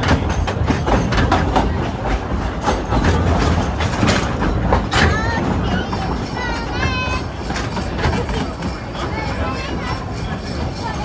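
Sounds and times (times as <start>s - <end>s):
train rumbling along track: 0.0s - 11.0s
wheels clicking and clanking: 0.0s - 11.0s.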